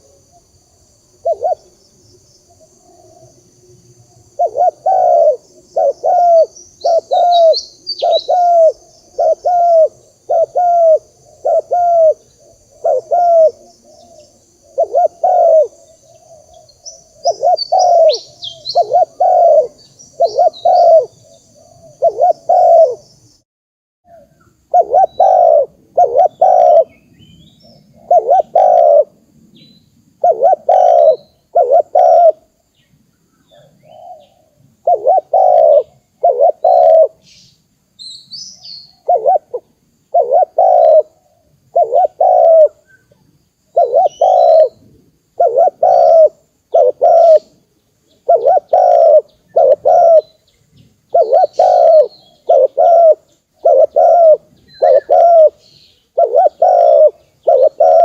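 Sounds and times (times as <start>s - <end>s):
high insect-like hiss: 0.0s - 23.4s, 24.1s - 58.0s
dove cooing: 1.2s - 1.8s, 2.4s - 3.5s, 4.2s - 23.1s, 24.1s - 27.0s, 27.6s - 29.3s, 30.2s - 32.5s, 33.5s - 37.2s, 38.9s - 47.6s, 48.2s - 50.4s, 51.1s - 58.0s
small birds chirping: 4.2s - 23.4s, 24.1s - 58.0s.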